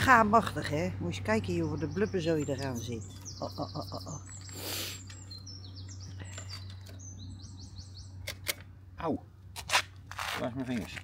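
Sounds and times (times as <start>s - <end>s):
songbird chirping: 0.0s - 9.4s.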